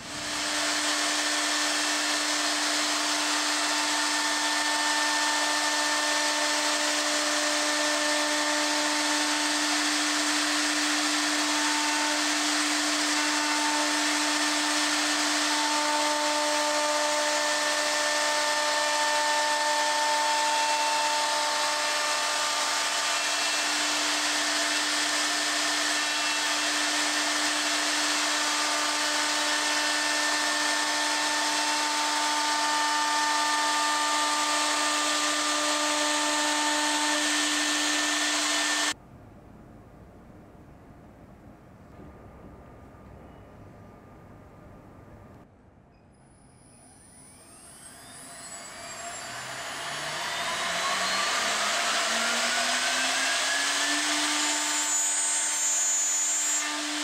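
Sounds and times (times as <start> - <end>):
router whining cutting wood: 0.0 - 39.0, 46.4 - 57.0.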